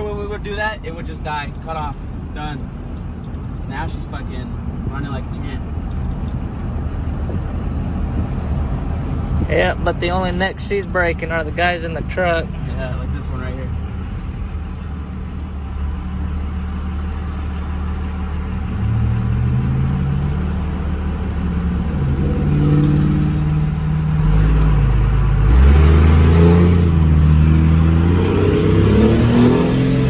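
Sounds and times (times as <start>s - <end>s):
diesel engine accelerating: 0.0s - 30.0s.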